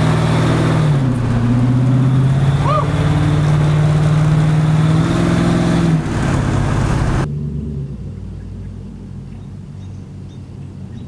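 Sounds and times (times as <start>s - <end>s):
engine revving high: 0.0s - 9.3s.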